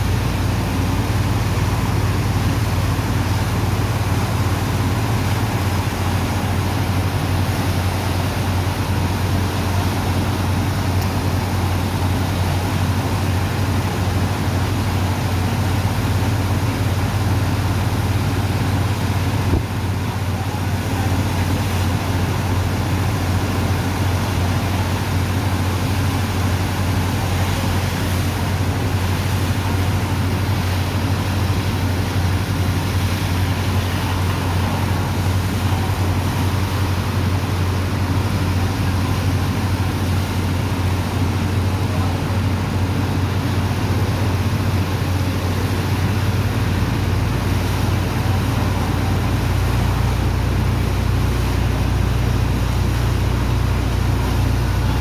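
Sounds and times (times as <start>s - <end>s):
engine and pump drone: 0.0s - 55.0s
wide rushing noise: 0.0s - 55.0s.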